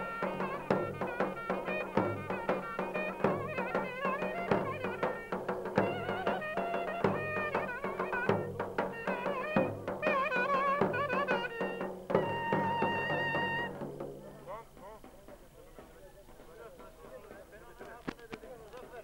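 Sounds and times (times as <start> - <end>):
reed wind instrument melody: 0.0 - 16.9
drum strikes: 0.0 - 18.4.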